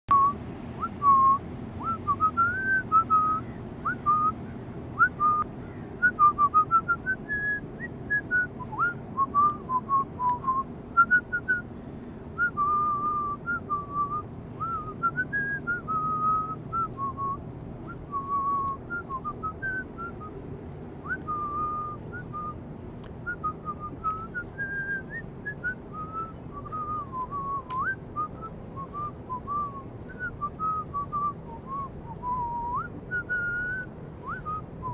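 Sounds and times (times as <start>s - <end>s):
person whistling a tune: 0.1s - 4.4s, 5.0s - 5.4s, 6.0s - 11.6s, 12.4s - 20.3s, 21.0s - 22.6s, 23.2s - 34.9s
faint low background rumble: 0.1s - 34.9s.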